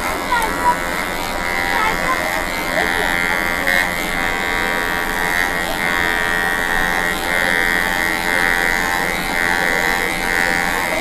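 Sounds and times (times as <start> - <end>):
electric hair trimmer buzzing: 0.0 - 11.0.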